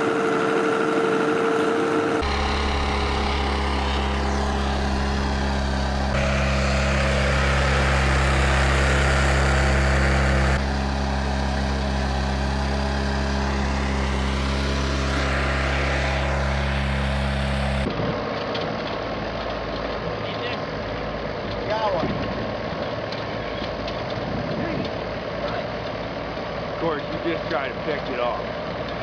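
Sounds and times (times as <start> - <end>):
trencher engine running: 0.0 - 29.0.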